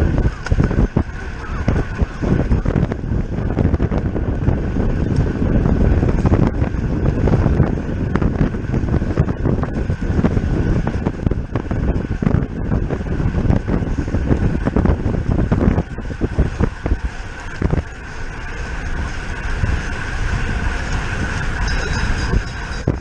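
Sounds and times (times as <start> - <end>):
faint steady whine: 0.0 - 23.0
wind buffeting microphone: 0.0 - 23.0.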